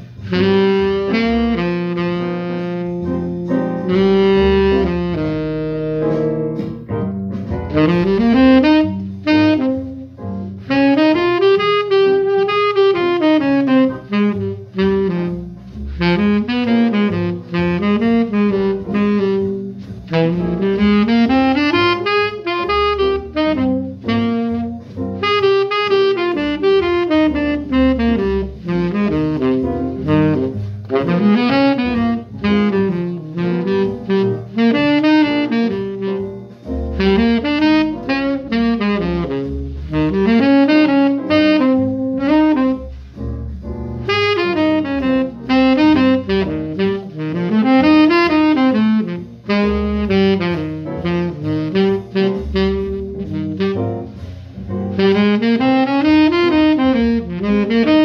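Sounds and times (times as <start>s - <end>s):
saxophone playing jazz melody: 0.0s - 58.0s.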